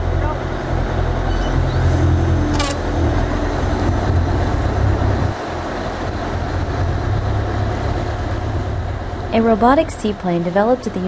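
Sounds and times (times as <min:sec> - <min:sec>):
low motor drone: 0:00.0 - 0:11.0
rushing wind and water: 0:00.0 - 0:11.0.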